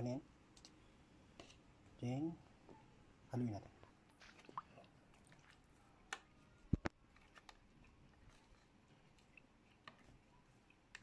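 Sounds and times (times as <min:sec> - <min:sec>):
spoon stirring wet food in pot: 0:00.4 - 0:11.0.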